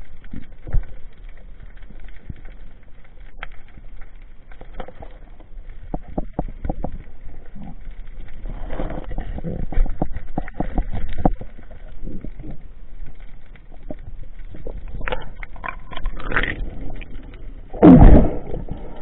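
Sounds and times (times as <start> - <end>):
underwater knocks and clicks: 0.0 - 17.5
underwater rumble of moving water: 0.0 - 19.0.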